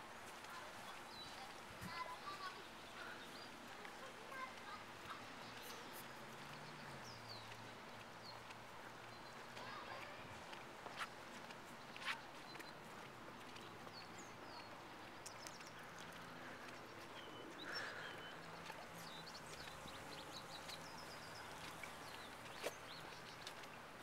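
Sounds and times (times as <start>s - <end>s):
small birds chirping: 0.4s - 24.0s.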